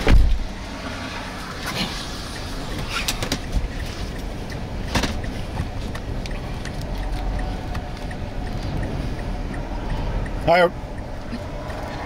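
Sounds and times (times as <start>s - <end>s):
low rumble inside vehicle: 0.0s - 12.0s.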